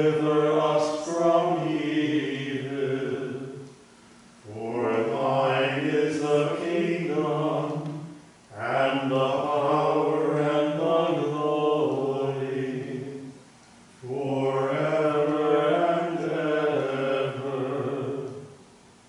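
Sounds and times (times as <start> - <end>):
man chanting: 0.0 - 3.6, 4.4 - 13.4, 14.0 - 18.6.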